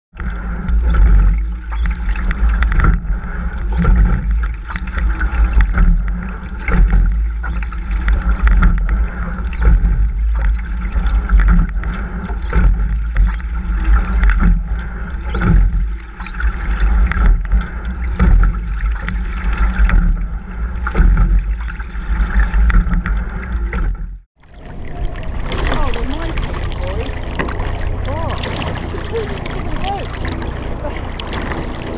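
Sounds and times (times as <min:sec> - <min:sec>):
water rushing along hull: 0:00.1 - 0:31.9
rowing stroke surge with knocks: 0:00.2 - 0:31.9.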